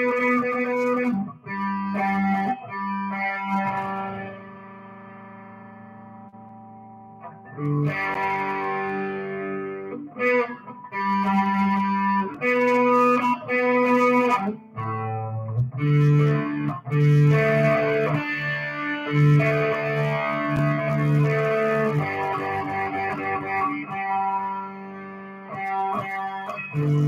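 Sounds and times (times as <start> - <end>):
distorted electric guitar chords: 0.0 - 27.0.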